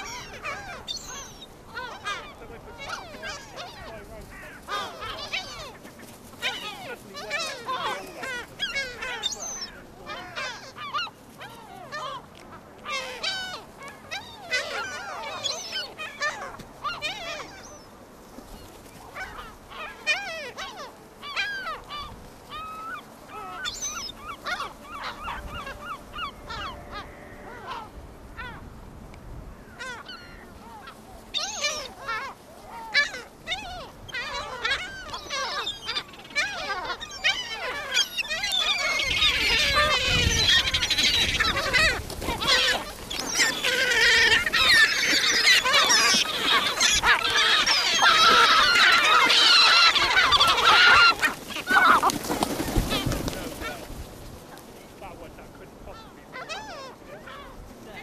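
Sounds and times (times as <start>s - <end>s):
gulls squawking and calling: 0.0s - 28.7s, 29.4s - 58.0s
wingbeats fluttering: 0.0s - 28.7s, 29.6s - 58.0s.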